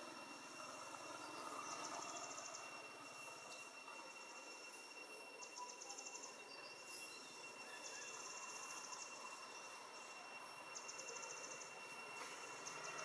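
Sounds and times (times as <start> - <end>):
insect pulsed trills: 0.0 - 13.0
insects high-pitched drone: 0.0 - 13.0.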